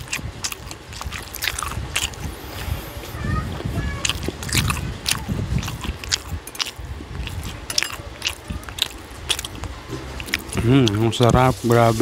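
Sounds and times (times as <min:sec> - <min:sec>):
person chewing food: 0:00.0 - 0:11.3.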